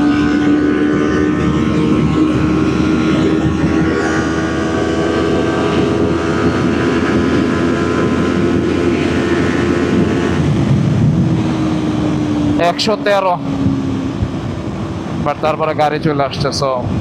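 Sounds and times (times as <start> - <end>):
motorcycle engine at high revs: 0.0 - 16.1
wind rush: 0.0 - 17.0.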